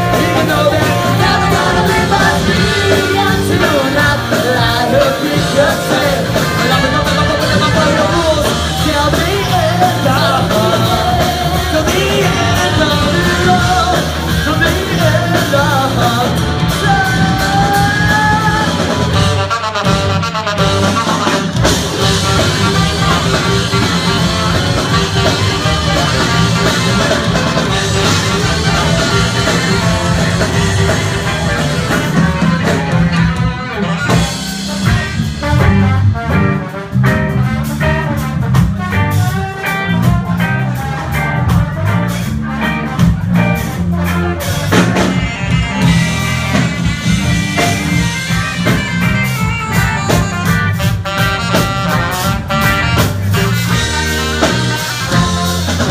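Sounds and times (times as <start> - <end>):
rock band with horns: 0.0 - 55.9.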